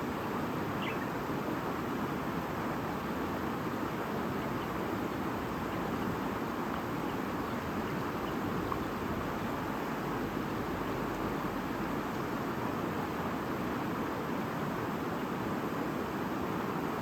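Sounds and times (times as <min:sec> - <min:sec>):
stream murmuring over stones: 0:00.0 - 0:17.0.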